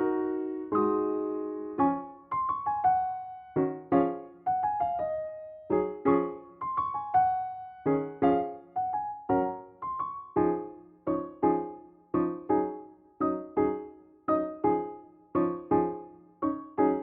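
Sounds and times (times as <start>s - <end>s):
soft solo piano chords: 0.0s - 17.0s.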